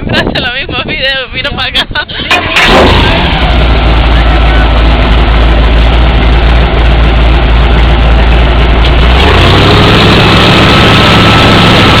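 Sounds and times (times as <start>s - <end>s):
off-road vehicle engine revving: 2.3s - 12.0s.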